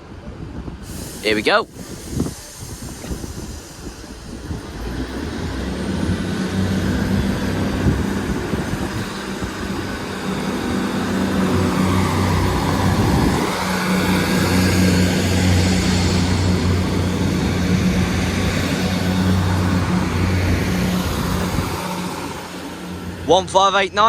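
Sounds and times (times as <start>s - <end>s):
diesel train engine: 0.0s - 24.0s.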